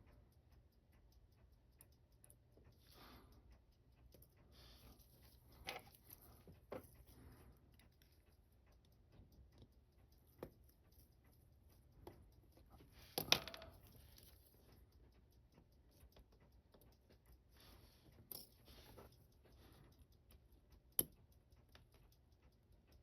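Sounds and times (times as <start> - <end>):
metal watch parts clicking: 0.0 - 23.0.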